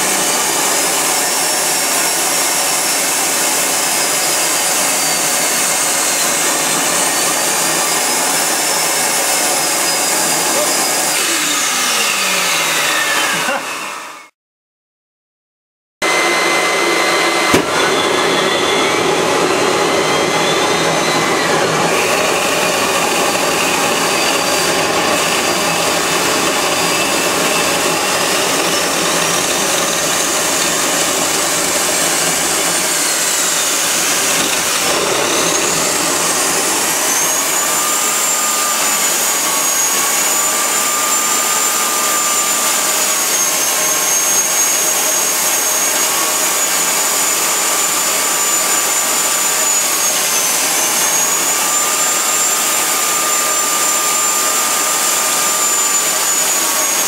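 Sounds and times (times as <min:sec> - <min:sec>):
gas turbine roaring: 0:00.0 - 0:14.3, 0:16.0 - 0:57.0
turbocharger whine: 0:00.0 - 0:14.4, 0:16.0 - 0:57.0.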